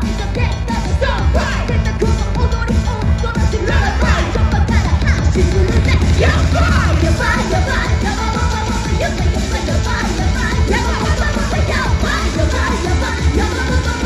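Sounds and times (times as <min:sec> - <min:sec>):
entrance music with singing: 0:00.0 - 0:14.0.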